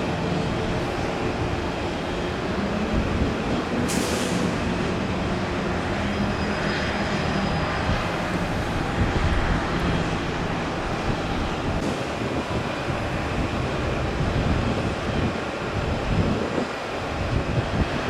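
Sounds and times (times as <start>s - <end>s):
concrete pump diesel engine: 0.0s - 18.0s.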